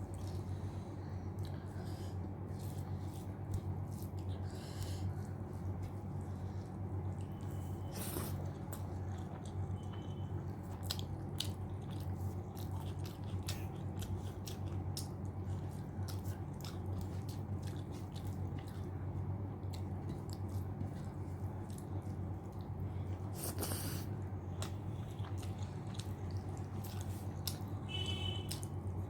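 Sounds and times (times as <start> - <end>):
close chewing with mouth clicks: 0.0 - 29.0
steady low hum: 0.0 - 29.0.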